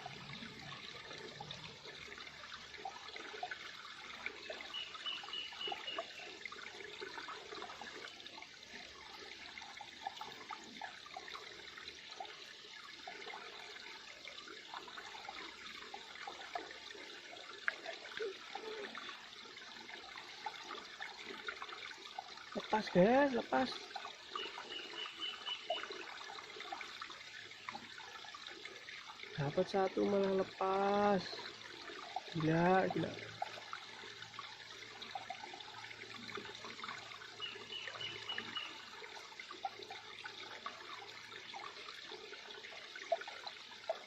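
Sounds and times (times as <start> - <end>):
river water running and trickling: 0.0 - 44.0
small splashes: 0.0 - 44.0.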